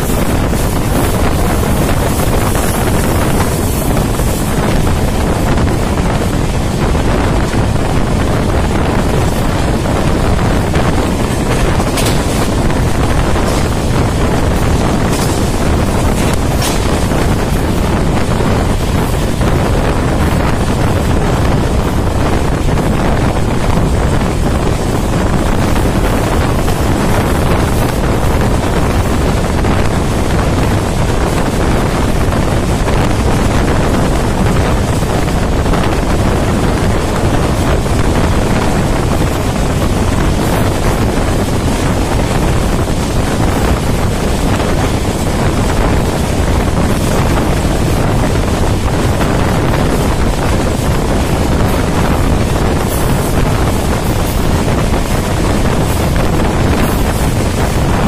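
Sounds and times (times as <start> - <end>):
train running at speed: 0.0 - 58.0
wind buffeting microphone: 0.0 - 58.0.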